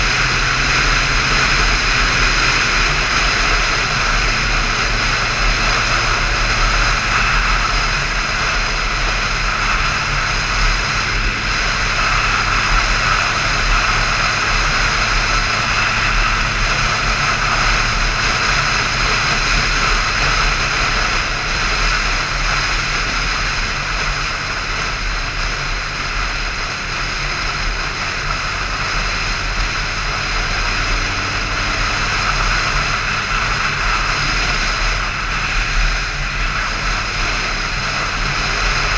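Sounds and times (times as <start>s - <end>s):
motorcycle engine droning: 0.0s - 38.9s
wind rushing over microphone: 0.0s - 38.9s.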